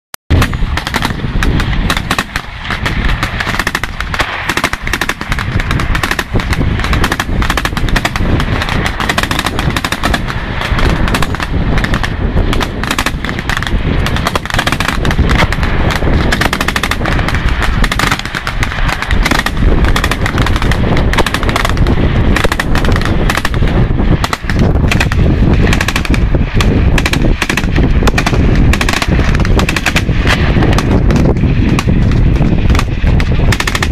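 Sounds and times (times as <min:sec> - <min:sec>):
automatic gunfire: 0:00.3 - 0:33.9.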